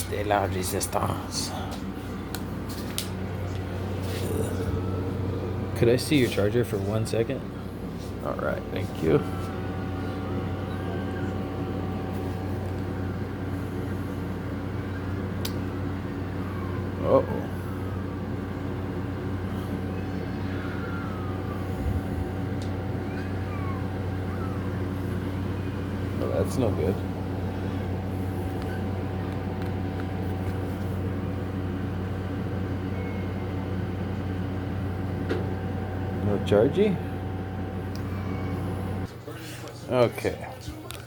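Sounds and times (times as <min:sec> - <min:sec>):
faint whine: 0:00.0 - 0:39.1
low mechanical hum: 0:00.0 - 0:41.0.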